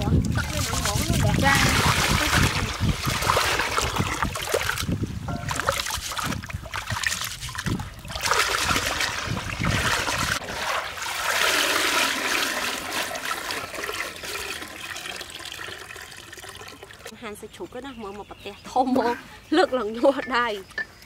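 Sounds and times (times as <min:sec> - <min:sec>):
water pouring through basket: 0:00.0 - 0:17.1
water sloshing and splashing: 0:00.0 - 0:17.1.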